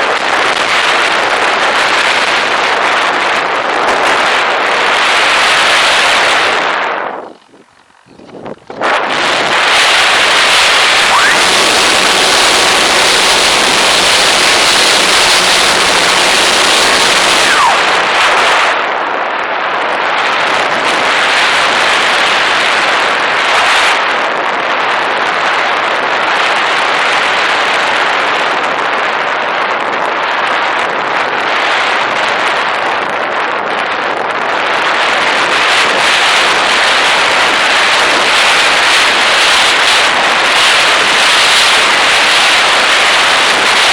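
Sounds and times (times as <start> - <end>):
wind and propeller noise: 0.0 - 43.9
wind buffeting on microphone: 0.0 - 43.9.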